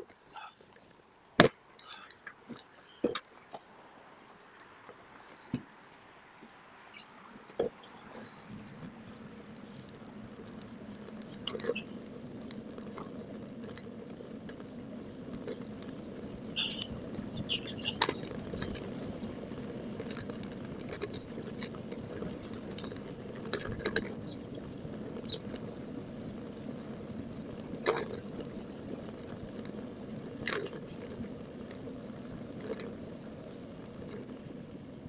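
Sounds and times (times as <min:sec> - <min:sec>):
bicycle tyre and wind rush: 0:00.0 - 0:35.0
bike clicks and rattles: 0:06.9 - 0:35.0.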